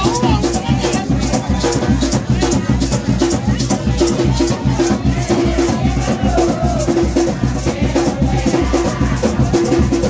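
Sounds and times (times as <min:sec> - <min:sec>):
drumming: 0:00.0 - 0:10.0
maracas shaking: 0:00.0 - 0:10.0
voices singing: 0:00.0 - 0:10.0.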